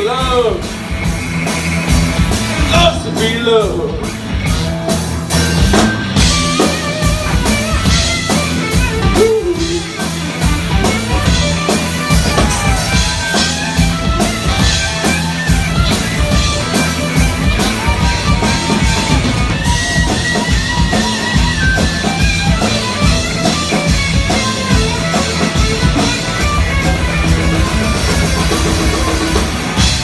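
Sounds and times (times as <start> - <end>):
bass guitar: 0.0 - 30.0
drum kit: 0.0 - 30.0
electric guitar: 0.0 - 30.0.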